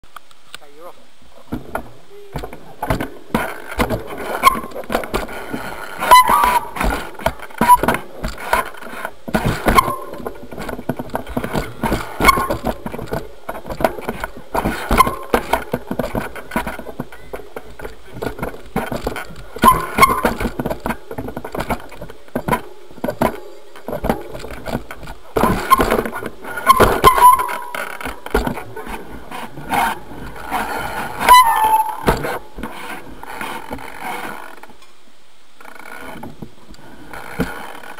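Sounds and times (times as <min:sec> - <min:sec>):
bike frame knocking and rattling: 0:01.5 - 0:34.8, 0:35.6 - 0:37.9.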